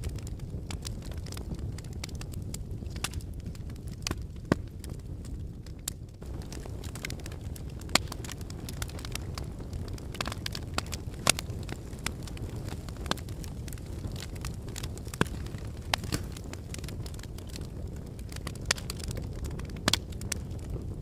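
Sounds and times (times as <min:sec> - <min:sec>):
fire crackling with pops: 0:00.0 - 0:21.0.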